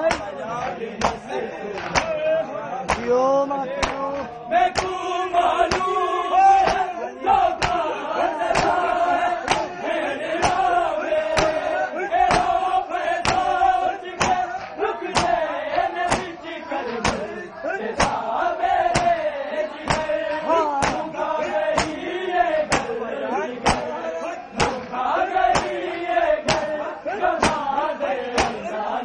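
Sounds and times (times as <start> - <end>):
chest-beating slaps: 0.0 - 2.2, 2.8 - 3.2, 3.8 - 6.0, 6.6 - 6.9, 7.5 - 9.8, 10.4 - 19.2, 19.8 - 23.0, 23.6 - 26.8, 27.4 - 28.7
crowd chanting a lament: 0.0 - 29.0.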